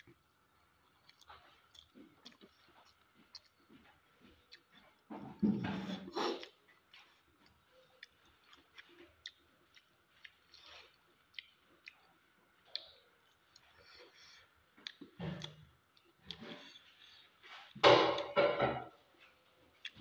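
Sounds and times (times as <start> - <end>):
wet chewing and smacking: 0.0 - 17.8, 19.2 - 20.0.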